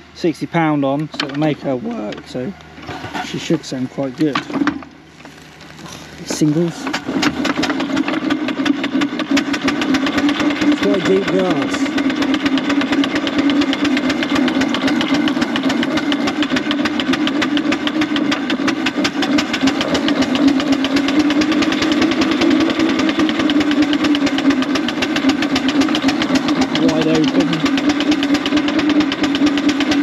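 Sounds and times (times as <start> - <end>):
steam traction engine chuffing: 6.0 - 30.0.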